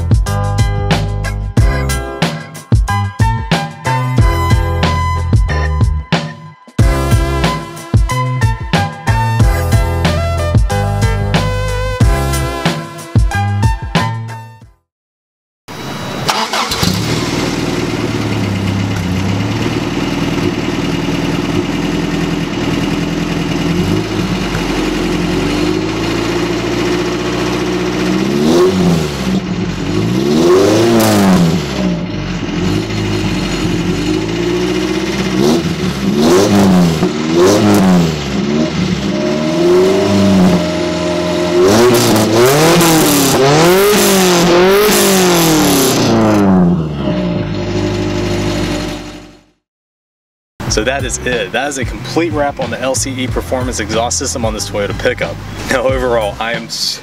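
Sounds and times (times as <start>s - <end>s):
truck engine idling and revving: 0.0s - 6.1s, 6.8s - 12.6s, 15.7s - 49.6s, 50.6s - 57.0s.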